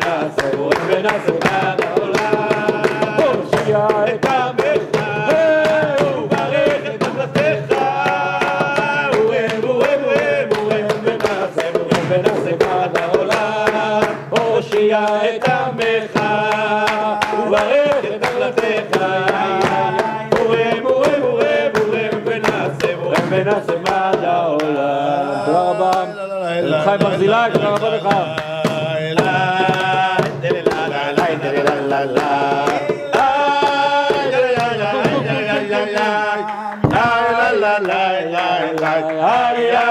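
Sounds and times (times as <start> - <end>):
fast hand drum beat: 0.0 - 39.9
men singing a religious song: 0.0 - 39.9
people clapping: 0.0 - 39.9.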